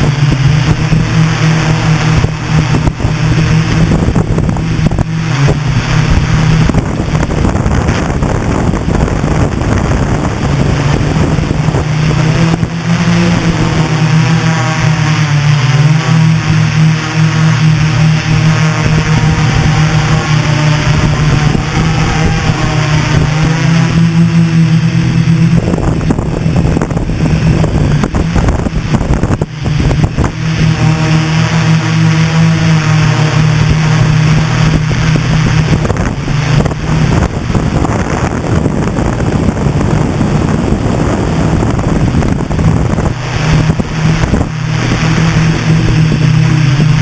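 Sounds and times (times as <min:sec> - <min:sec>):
drone motors and propellers buzzing: 0:00.0 - 0:47.0
wind on microphone: 0:00.0 - 0:47.0.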